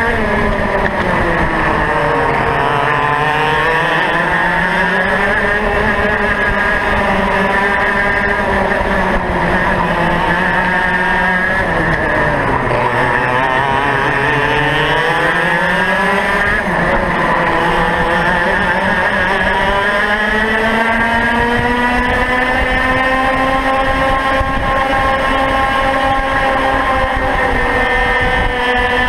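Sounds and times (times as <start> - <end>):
road rumble: 0.0 - 29.0
two-stroke kart engine: 0.0 - 29.0
wind: 0.0 - 29.0.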